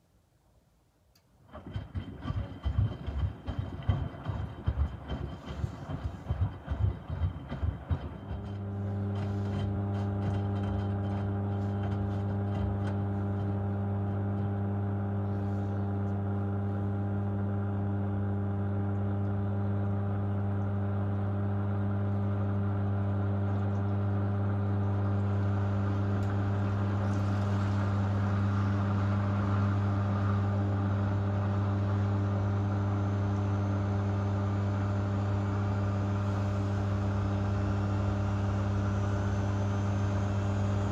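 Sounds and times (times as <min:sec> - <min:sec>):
washing machine humming: 0:01.4 - 0:40.9.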